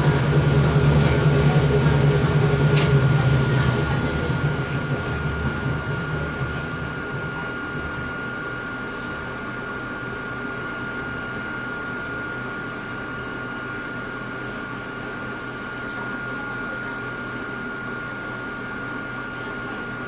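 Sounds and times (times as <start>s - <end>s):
electric railcar hum and hiss: 0.0s - 20.0s.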